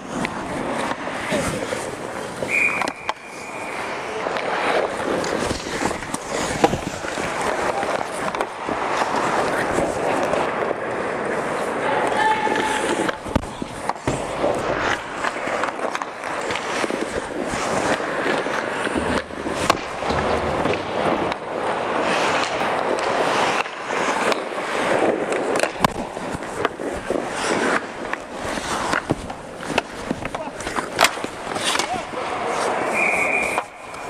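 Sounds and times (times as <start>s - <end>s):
skates scraping on ice: 0.0s - 34.0s
sticks and puck clacking: 0.0s - 34.0s.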